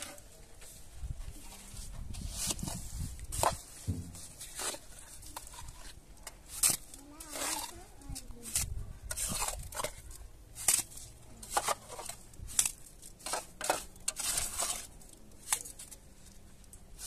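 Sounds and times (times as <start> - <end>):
scraping and crunching rasps: 1.6 - 17.0.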